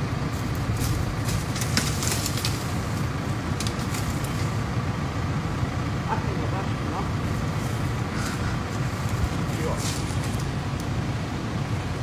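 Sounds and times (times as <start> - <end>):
steady low rumble: 0.0 - 12.0
leaves and branches rustling: 0.2 - 5.9, 7.2 - 12.0.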